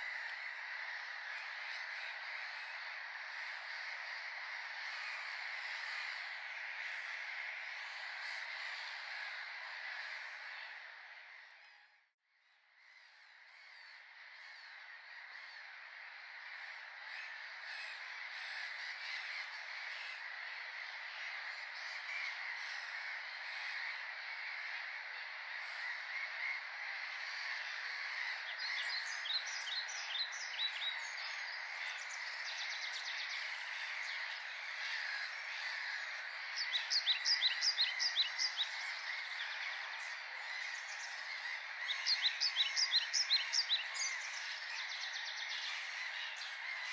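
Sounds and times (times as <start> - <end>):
chorus of animals calling: 0.0 - 11.5, 13.5 - 46.9.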